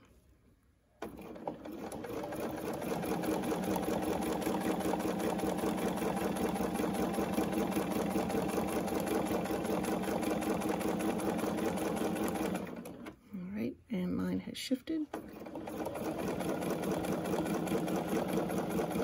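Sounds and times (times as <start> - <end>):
sewing machine stitching: 1.0 - 13.2, 15.0 - 19.0.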